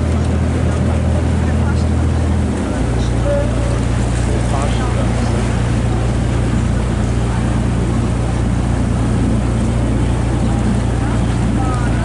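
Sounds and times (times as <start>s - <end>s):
boat engine drone: 0.0s - 12.0s
water rushing past boat: 0.0s - 12.0s.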